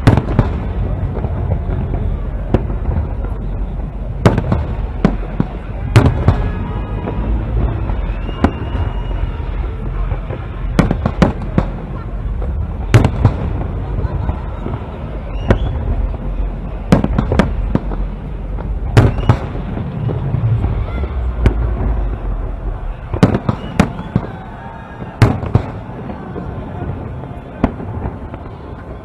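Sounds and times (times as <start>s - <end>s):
low rumble: 0.0s - 26.7s
fireworks bursting: 0.0s - 29.0s.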